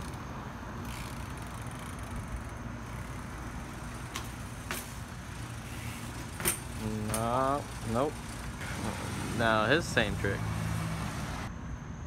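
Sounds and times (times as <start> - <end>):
bike sharp clicks: 0.0 - 11.5
road traffic rumble: 0.0 - 12.0.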